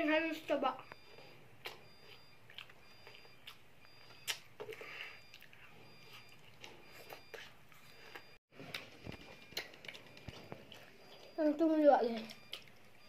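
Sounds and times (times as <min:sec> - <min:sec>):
child chewing and lip-smacking: 0:00.8 - 0:13.0.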